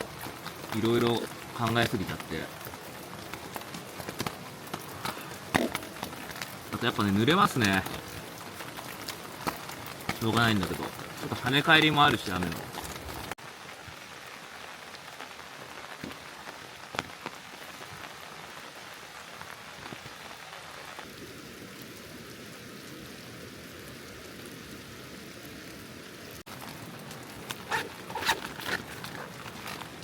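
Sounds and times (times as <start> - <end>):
rain falling on a tarp: 0.0 - 30.0.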